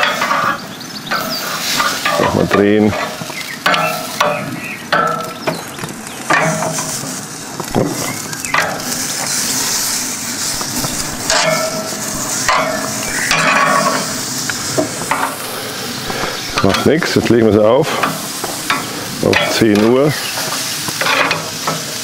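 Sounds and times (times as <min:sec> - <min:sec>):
meat sizzling on a grill: 0:00.0 - 0:22.0
metal tongs scraping grill grate: 0:00.0 - 0:22.0.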